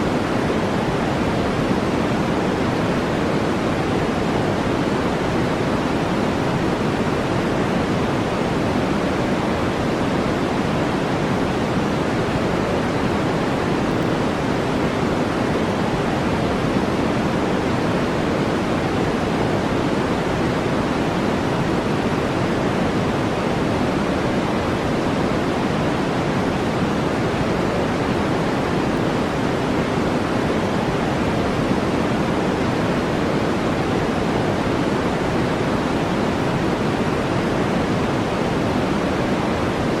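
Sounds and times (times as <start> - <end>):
brown noise hiss: 0.0 - 40.0.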